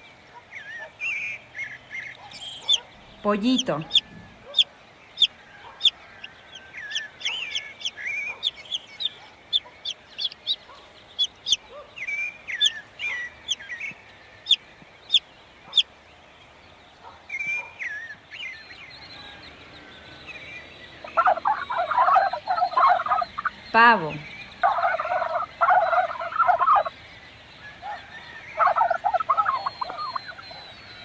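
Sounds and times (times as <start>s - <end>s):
baby chicks peeping: 2.1s - 15.8s, 18.9s - 31.0s.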